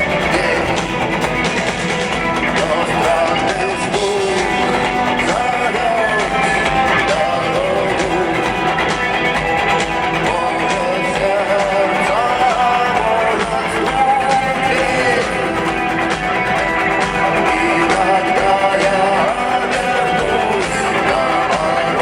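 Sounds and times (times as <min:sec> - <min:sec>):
guitar: 0:00.0 - 0:22.0
rock band playing live: 0:00.0 - 0:22.0.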